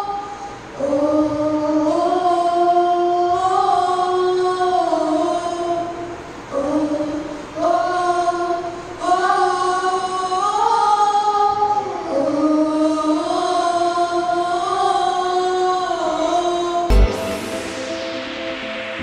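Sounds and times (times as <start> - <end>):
boy singing: 0.0 - 16.9
woman singing: 0.0 - 18.1.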